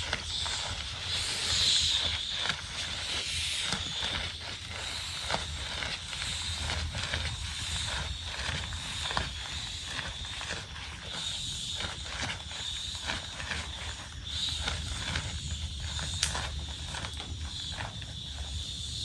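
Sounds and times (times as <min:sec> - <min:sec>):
campfire crackling and popping: 0:00.0 - 0:18.6
high-pitched insect drone: 0:00.0 - 0:19.0.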